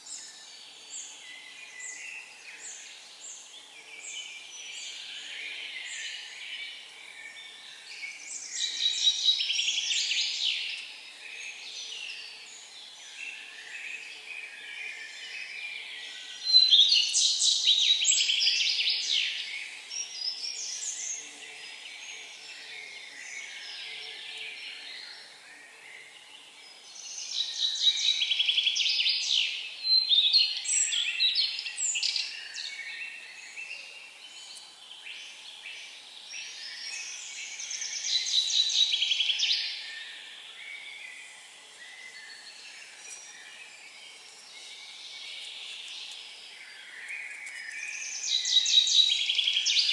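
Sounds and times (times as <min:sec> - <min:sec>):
faint bird chirping: 0:00.0 - 0:49.9
songbirds singing: 0:00.0 - 0:49.9.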